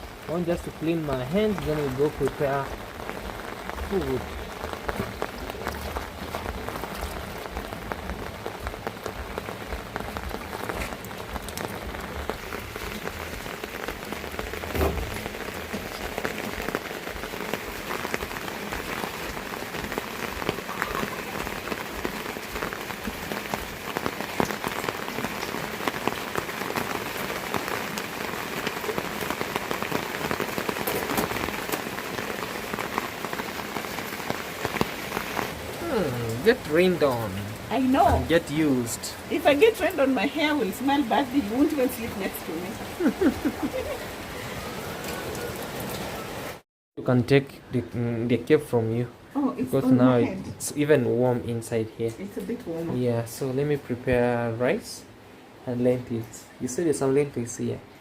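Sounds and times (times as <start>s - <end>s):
raindrops ticking: 0.0s - 46.6s, 50.6s - 54.9s
rain falling: 0.0s - 58.0s.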